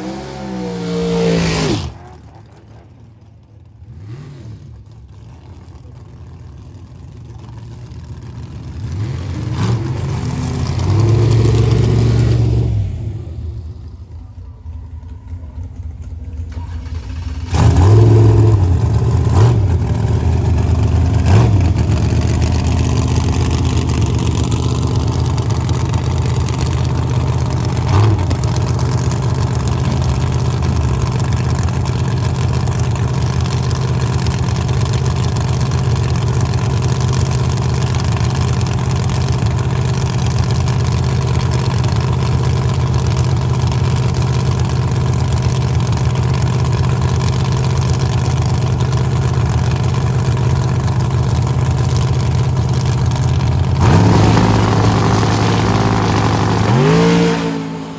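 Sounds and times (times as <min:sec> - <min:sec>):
race car engine starting and idling: 0:00.0 - 0:57.9
engine throttle blips: 0:08.8 - 0:57.9.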